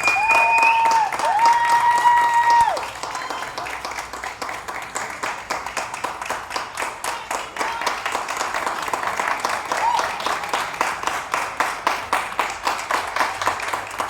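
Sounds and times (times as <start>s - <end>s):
group applauding: 0.0s - 14.0s.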